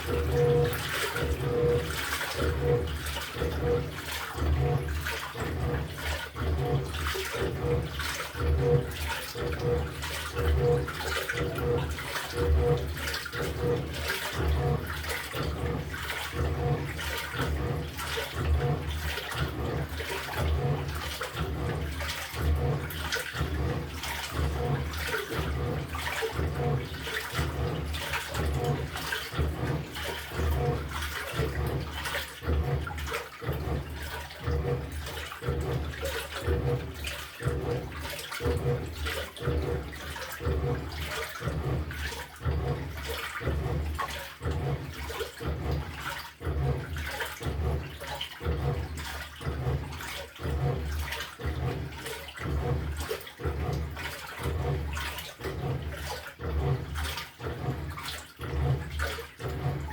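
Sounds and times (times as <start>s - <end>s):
washing machine agitating: 0.0s - 59.9s
water sloshing in tub: 0.0s - 59.9s.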